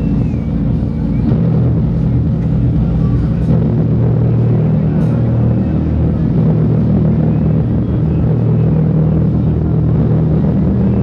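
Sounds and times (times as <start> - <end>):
low rumble with droning hum: 0.0 - 11.0.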